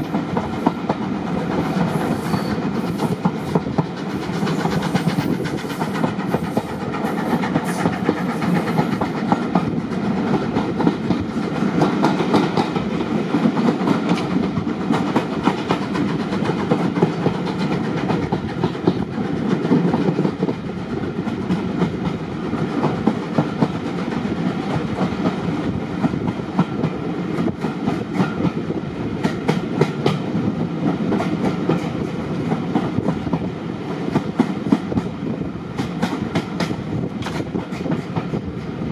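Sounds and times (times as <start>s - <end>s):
clickety-clack of train wheels: 0.0s - 38.9s
train rumbling along track: 0.0s - 38.9s.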